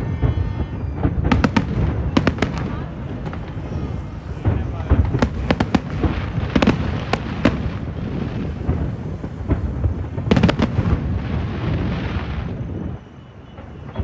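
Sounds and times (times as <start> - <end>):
firecrackers cracking: 0.0 - 14.0
rumble of firework bangs: 0.0 - 14.0.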